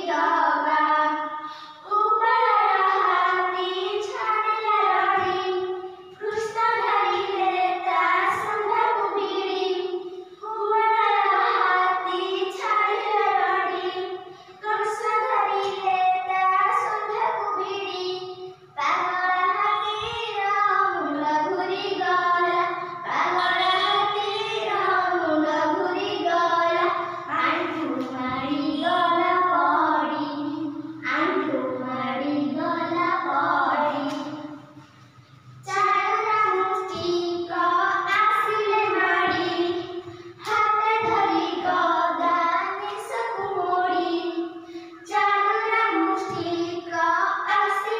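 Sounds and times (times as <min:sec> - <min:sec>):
young girls singing: 0:00.0 - 0:47.9.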